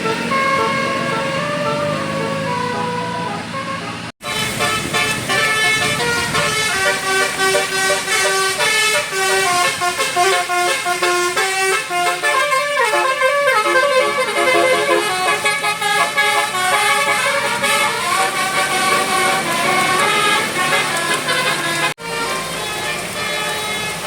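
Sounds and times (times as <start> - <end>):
multi-note bus horn playing tune: 0.0 - 24.0.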